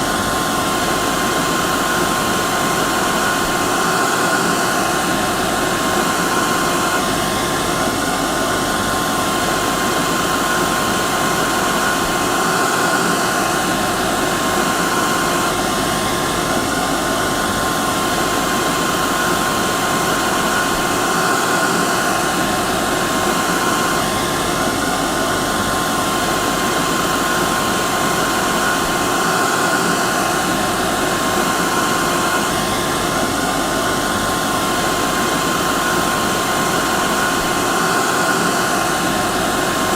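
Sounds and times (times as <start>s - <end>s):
hair dryer blowing air: 0.0s - 39.9s
hair dryer motor whine: 0.0s - 39.9s.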